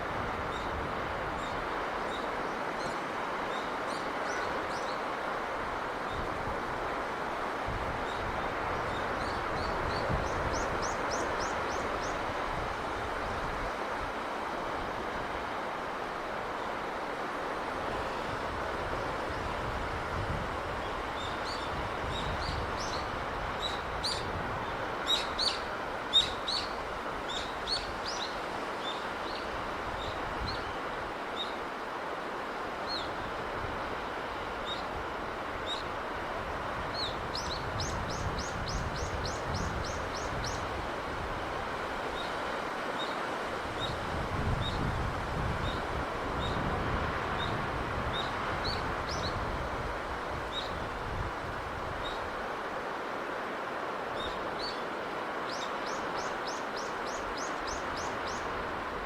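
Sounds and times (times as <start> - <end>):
sea breeze rushing: 0.0 - 59.0.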